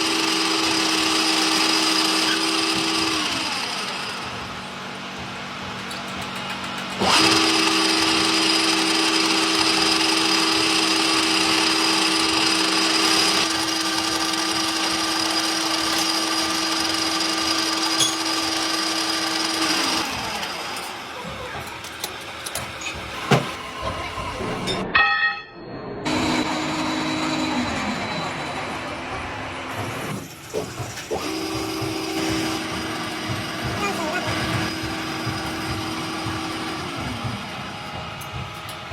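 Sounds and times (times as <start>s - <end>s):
power tool whining: 0.0s - 24.8s, 26.1s - 38.9s.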